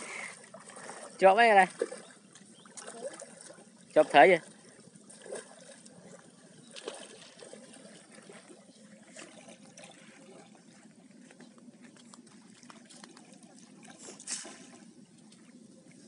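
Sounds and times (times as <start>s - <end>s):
small splashes: 0.0s - 10.7s, 12.1s - 15.6s
shallow river water trickling: 0.0s - 16.0s.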